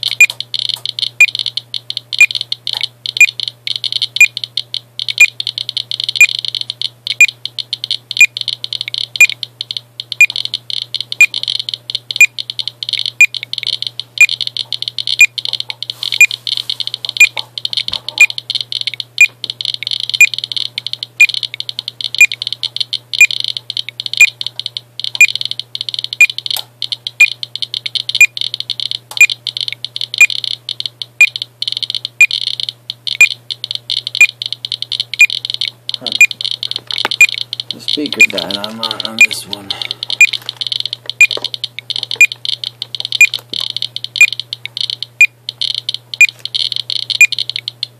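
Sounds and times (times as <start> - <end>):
geiger counter alarm: 0.0 - 47.9
geiger counter clicks: 0.0 - 47.9.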